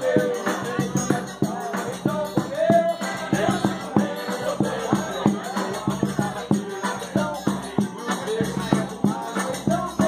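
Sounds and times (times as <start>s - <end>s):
accordion melody: 0.0s - 10.0s
bass drum beat: 0.0s - 10.0s.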